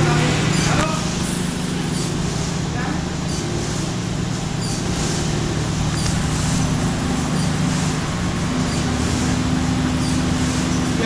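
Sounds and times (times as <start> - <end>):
printing press running: 0.0 - 11.0.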